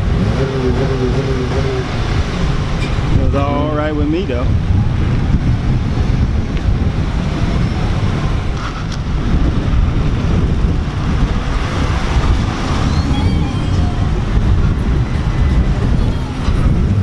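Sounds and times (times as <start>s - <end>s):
traffic rumbling past: 0.0s - 17.0s.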